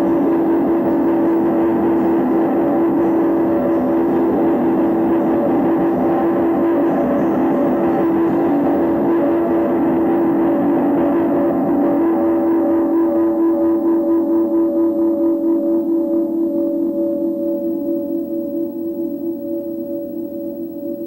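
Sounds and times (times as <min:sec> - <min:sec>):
noise music drone: 0:00.0 - 0:21.0.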